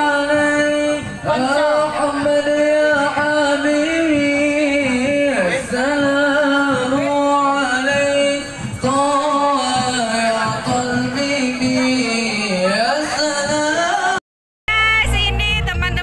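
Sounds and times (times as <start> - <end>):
person singing slow song: 0.0 - 14.2.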